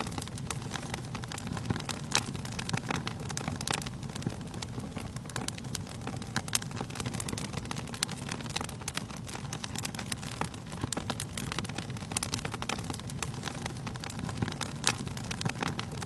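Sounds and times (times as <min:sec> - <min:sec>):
fire rumbling: 0:00.0 - 0:16.0
logs crackling and snapping: 0:00.0 - 0:16.0.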